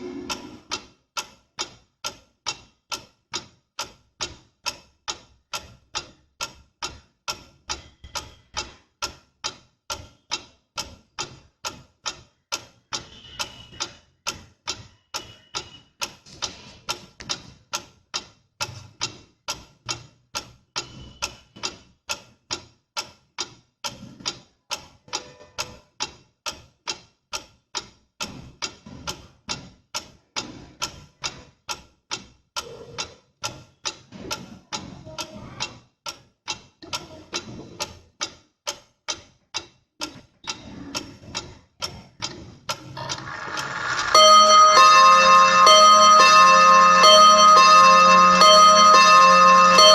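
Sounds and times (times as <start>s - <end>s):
pendulum clock ticking: 0.0s - 49.9s.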